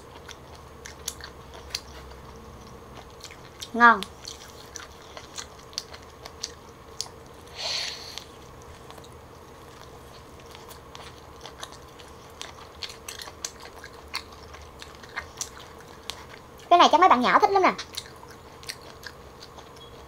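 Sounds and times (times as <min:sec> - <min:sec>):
chewing with wet clicks: 0:00.0 - 0:07.4, 0:08.2 - 0:16.7, 0:17.5 - 0:20.0.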